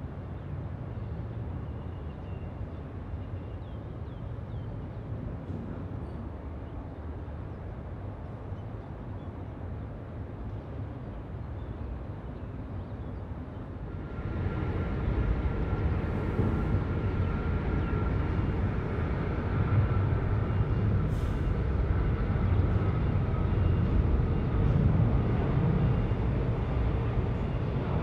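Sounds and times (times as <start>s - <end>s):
jet engines deep rumble: 2.5s - 28.0s.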